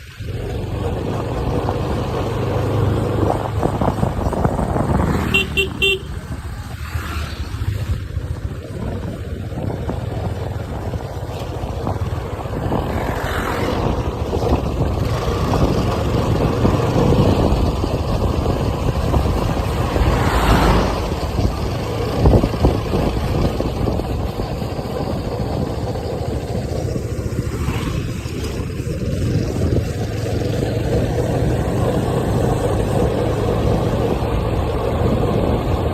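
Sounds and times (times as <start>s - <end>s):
vehicle road and engine noise: 0.0s - 35.9s.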